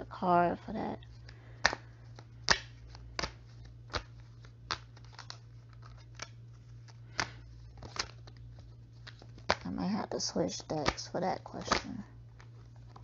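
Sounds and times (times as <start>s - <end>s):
faint low hum: 0.0s - 13.0s
cards being shuffled: 0.9s - 13.0s.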